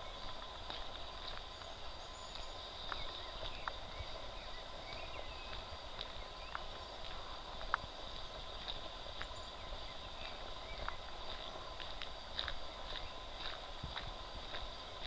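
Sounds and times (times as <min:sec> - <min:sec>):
footsteps on asphalt: 0:00.0 - 0:15.0.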